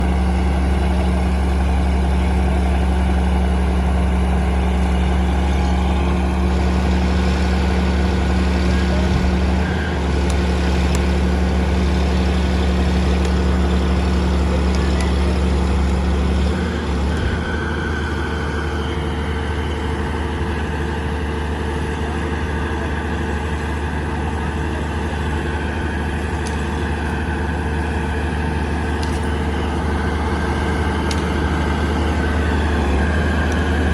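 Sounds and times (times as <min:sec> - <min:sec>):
heavy diesel engine droning: 0:00.0 - 0:33.9.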